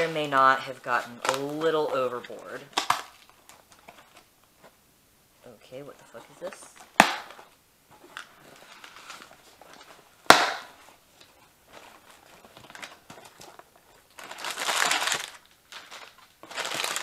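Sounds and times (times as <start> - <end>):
packing paper crinkling: 0.0 - 4.7, 6.1 - 17.0.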